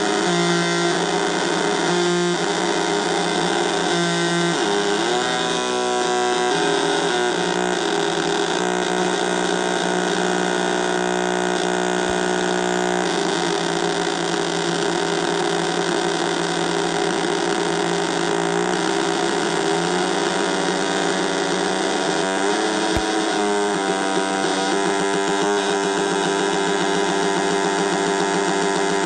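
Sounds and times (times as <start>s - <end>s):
square-wave synthesizer drone: 0.0s - 29.0s.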